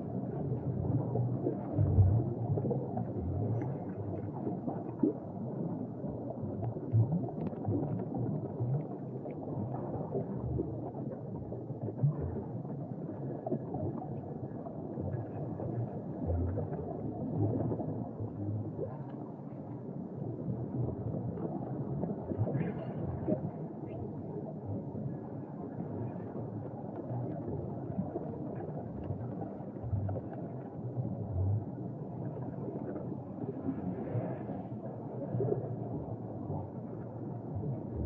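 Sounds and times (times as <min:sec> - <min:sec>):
underwater air bubbles burbling: 0:00.0 - 0:19.2, 0:20.2 - 0:38.0.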